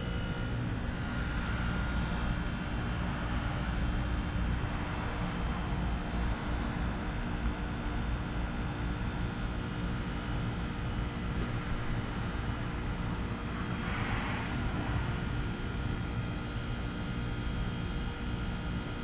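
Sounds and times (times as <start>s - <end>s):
heat pump droning: 0.0s - 19.0s.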